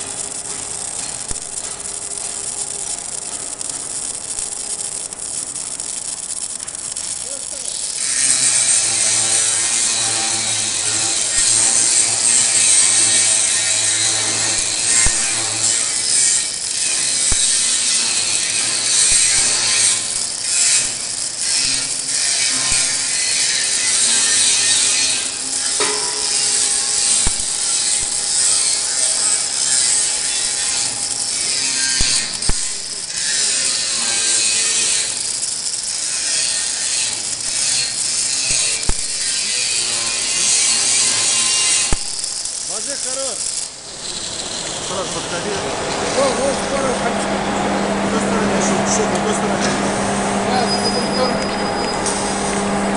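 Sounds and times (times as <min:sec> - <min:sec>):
sharp sparking pops: 0:00.0 - 0:46.9, 0:49.5 - 0:52.9
arc welding hiss and crackle: 0:00.0 - 0:52.9.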